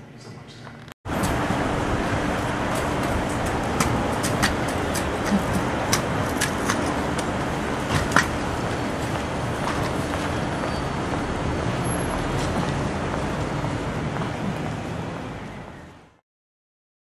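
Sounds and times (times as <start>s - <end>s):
busy city street traffic: 0.0s - 16.2s.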